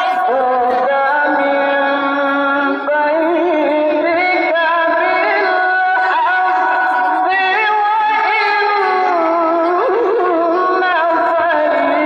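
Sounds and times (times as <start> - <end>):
person singing slow melody: 0.0 - 12.0.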